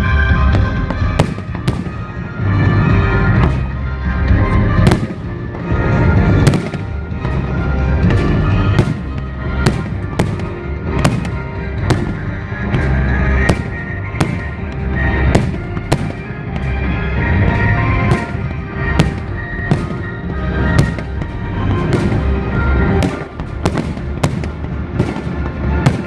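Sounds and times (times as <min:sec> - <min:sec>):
fireworks bursting with sharp bangs: 0:00.0 - 0:26.0
loud music with deep rumble: 0:00.0 - 0:26.0.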